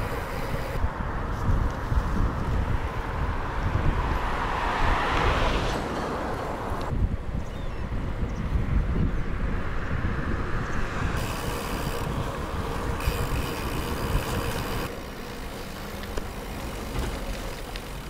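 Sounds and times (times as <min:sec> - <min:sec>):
road noise: 0:00.0 - 0:18.0
wind rumbling on microphone: 0:00.0 - 0:18.0.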